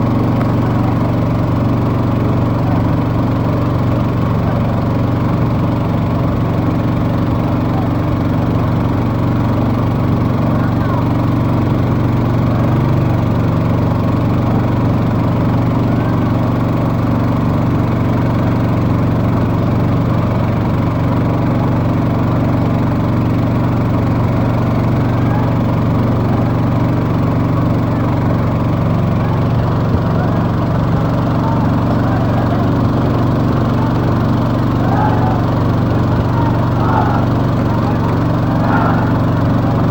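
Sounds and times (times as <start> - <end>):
small engine droning: 0.0 - 39.9.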